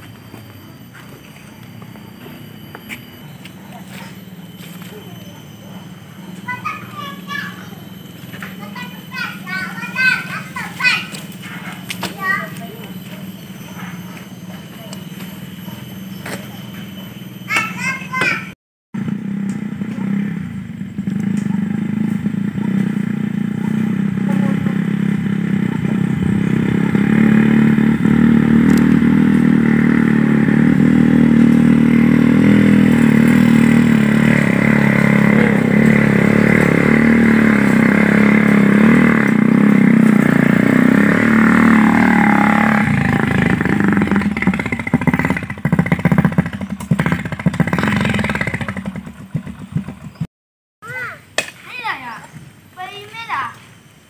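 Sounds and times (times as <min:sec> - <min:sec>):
motorcycle engine pulling uphill: 0:00.0 - 0:50.3.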